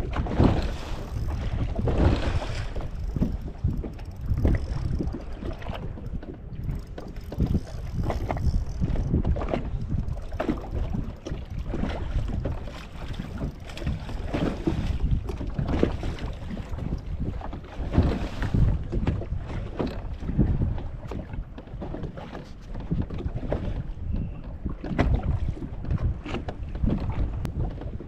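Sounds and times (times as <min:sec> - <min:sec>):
water slapping against a hull: 0:00.0 - 0:28.0
wind buffeting the microphone: 0:00.0 - 0:28.0.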